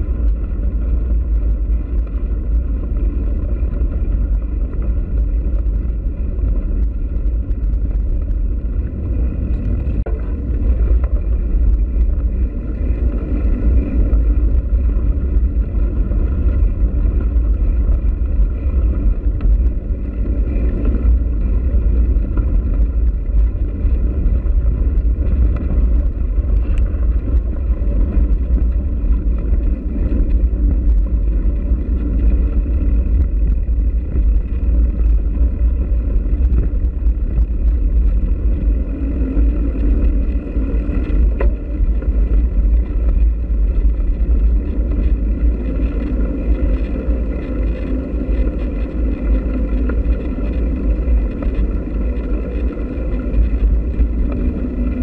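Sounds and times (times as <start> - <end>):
road vibration rumble: 0.0 - 55.0
wind rumble on microphone: 0.0 - 55.0.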